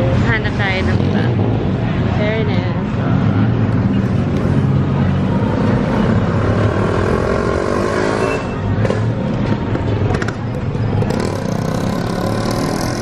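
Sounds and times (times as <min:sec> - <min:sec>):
cars moving slowly: 0:00.0 - 0:13.0
motorcycle: 0:00.0 - 0:13.0.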